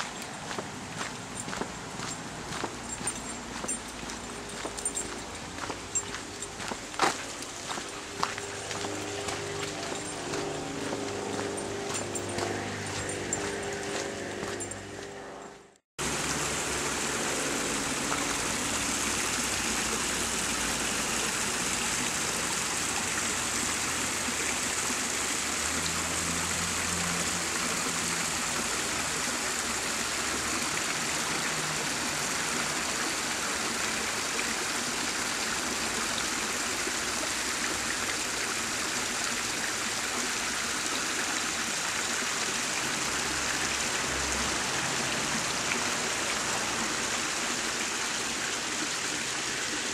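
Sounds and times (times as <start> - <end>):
creek trickling over rocks: 0.0 - 14.8, 16.0 - 49.9.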